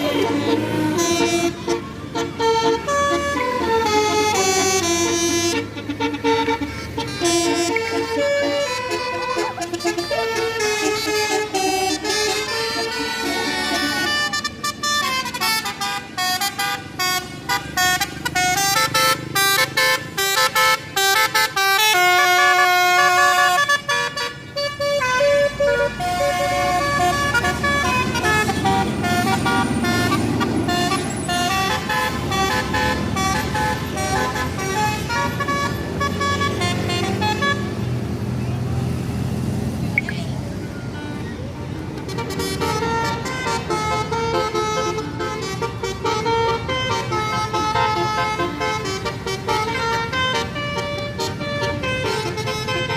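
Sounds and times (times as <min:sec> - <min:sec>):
bus horn playing a tune: 0:00.0 - 0:38.2, 0:40.7 - 0:52.9
bus engine running: 0:00.0 - 0:52.9.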